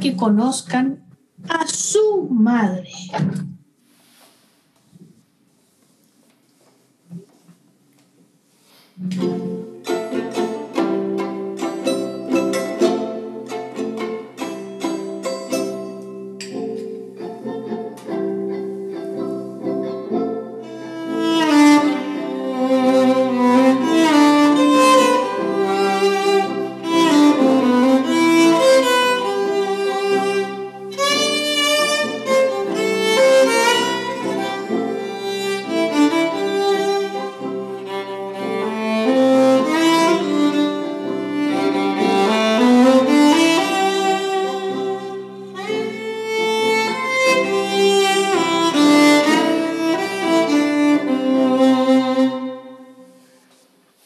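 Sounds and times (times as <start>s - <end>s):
solo violin melody: 9.0s - 16.4s, 17.0s - 53.3s.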